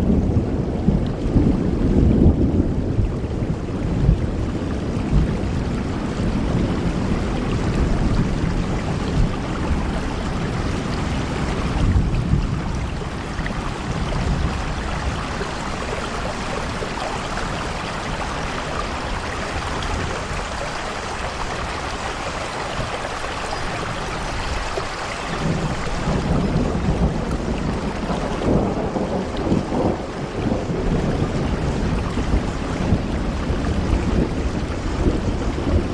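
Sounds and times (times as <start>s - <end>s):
heavy rain on window: 0.0s - 35.9s.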